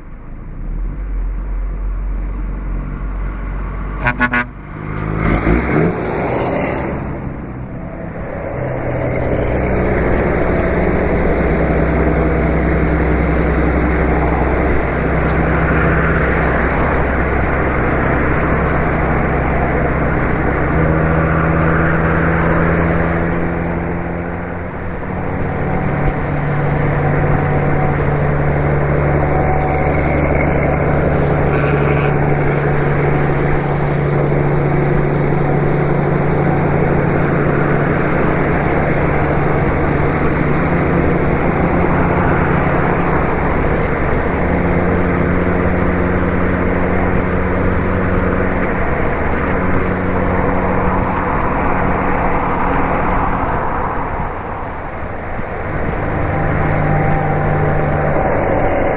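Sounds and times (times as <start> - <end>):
diesel truck engine drone: 0.0 - 58.9
road and wind noise: 0.0 - 58.9.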